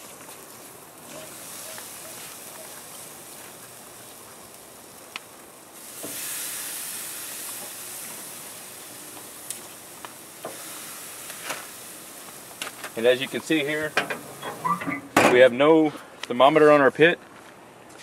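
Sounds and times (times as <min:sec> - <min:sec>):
chicken sizzling on hot grate: 0:00.0 - 0:15.6.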